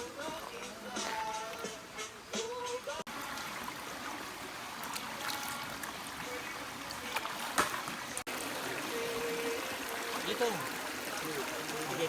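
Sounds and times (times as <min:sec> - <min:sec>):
stream running water: 0:00.0 - 0:12.0.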